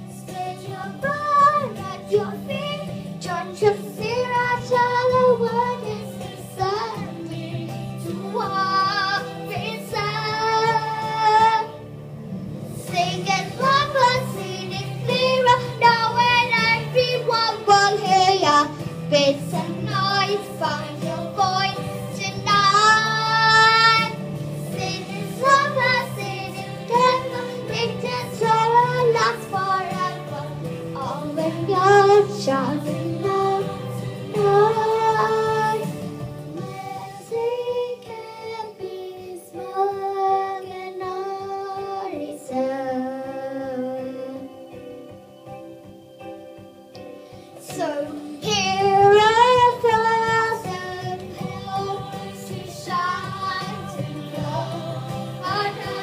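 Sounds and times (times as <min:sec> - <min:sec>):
girl singing into a microphone: 0:00.0 - 0:11.8, 0:12.9 - 0:24.2, 0:24.8 - 0:35.9, 0:36.5 - 0:44.8, 0:47.6 - 0:56.0
backing music: 0:00.0 - 0:56.0.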